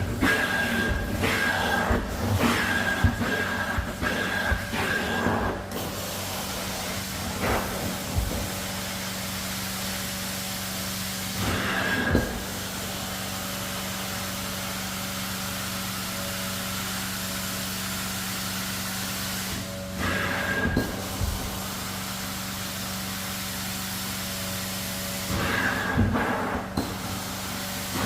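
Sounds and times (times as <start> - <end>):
carpet extractor running: 0.0 - 28.0.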